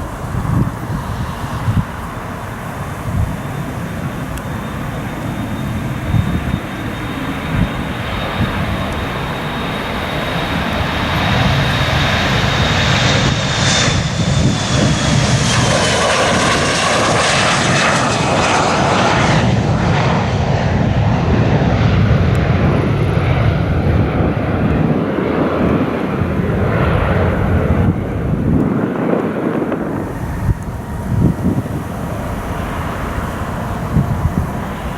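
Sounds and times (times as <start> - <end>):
high jet whine: 0.0 - 34.9
jet engines roaring: 0.0 - 34.9.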